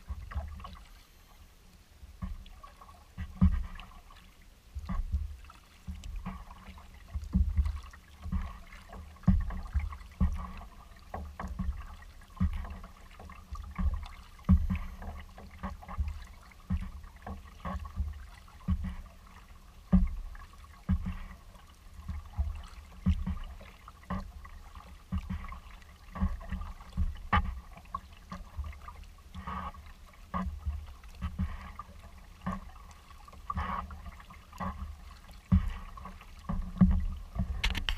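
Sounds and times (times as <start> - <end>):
paddle strokes with thuds: 0.0 - 37.9
water splashing and trickling: 0.0 - 37.9.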